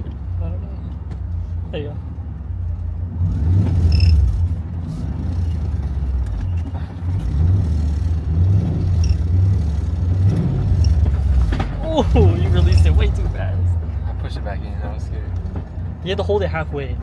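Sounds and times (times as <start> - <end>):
truck engine rumble from cab: 0.0 - 17.0.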